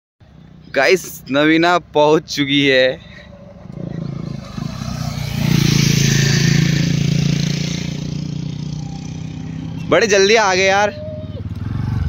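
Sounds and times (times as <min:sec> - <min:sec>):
motor vehicle passing: 0:00.2 - 0:12.0.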